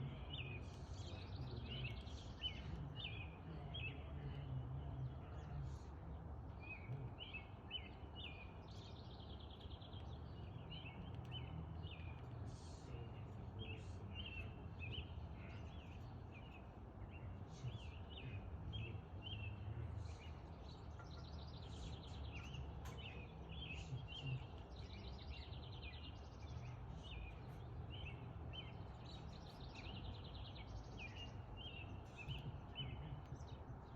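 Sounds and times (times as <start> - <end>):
low background rumble: 0.0 - 33.9
small birds chirping: 0.0 - 33.9.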